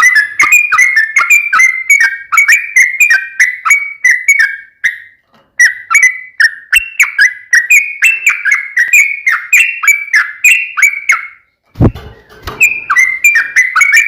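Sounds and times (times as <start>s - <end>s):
bird whistled song: 0.0s - 14.0s.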